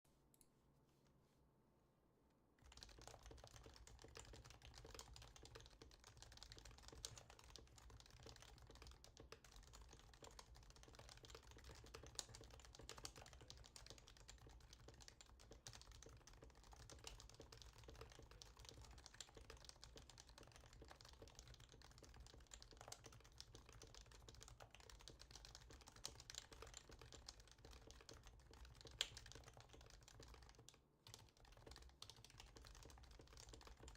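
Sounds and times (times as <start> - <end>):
fast keyboard typing: 2.6 - 33.9.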